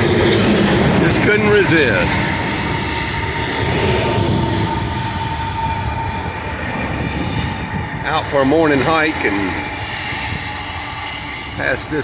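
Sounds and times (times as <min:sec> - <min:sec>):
freight train rolling past: 0:00.0 - 0:12.0
steel wheels squealing: 0:00.0 - 0:12.0.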